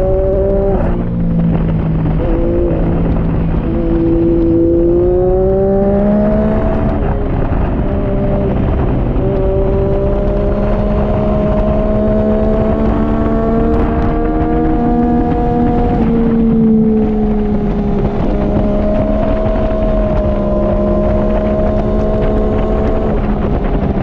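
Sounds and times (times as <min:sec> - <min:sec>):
motorcycle engine accelerating: 0:00.0 - 0:24.0
wind rushing: 0:00.0 - 0:24.0.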